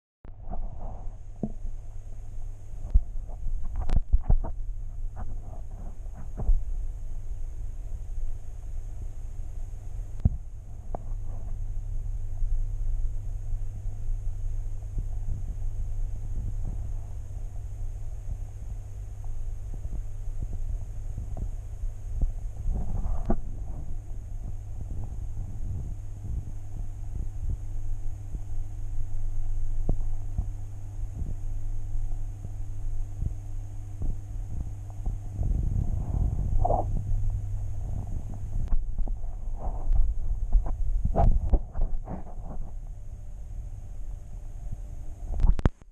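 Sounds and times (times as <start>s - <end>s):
low underwater hum: 0.3s - 45.9s.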